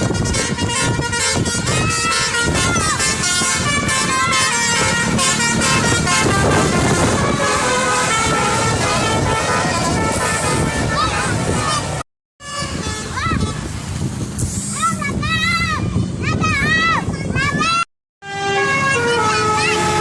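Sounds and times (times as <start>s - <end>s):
air horns playing melody: 0.0s - 14.3s, 18.2s - 20.0s
road traffic noise: 0.0s - 20.0s.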